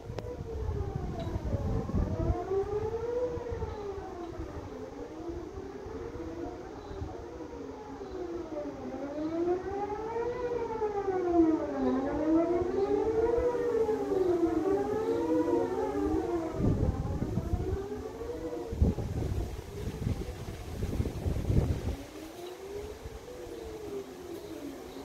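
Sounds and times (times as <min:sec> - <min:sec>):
distant warning sirens: 0:00.0 - 0:25.0.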